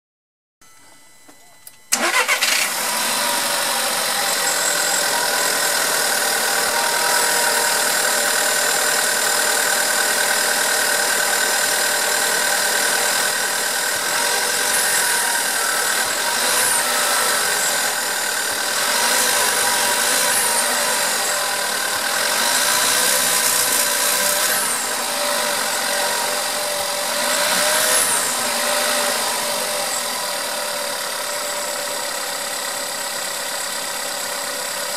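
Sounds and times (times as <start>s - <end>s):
car engine starting and idling: 1.7s - 34.9s
engine rattle: 1.9s - 34.9s.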